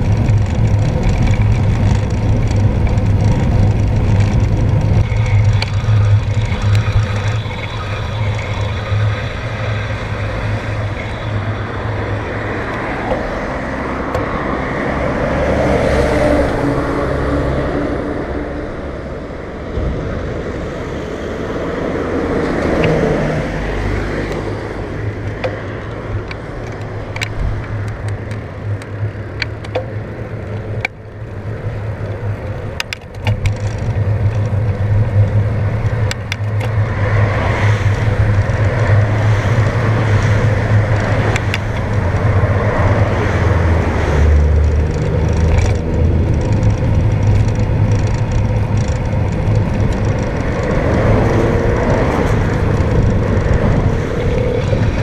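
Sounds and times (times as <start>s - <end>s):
cars passing: 0.0s - 55.0s
road rumble from bike: 0.0s - 55.0s
wind buffeting microphone: 0.0s - 55.0s.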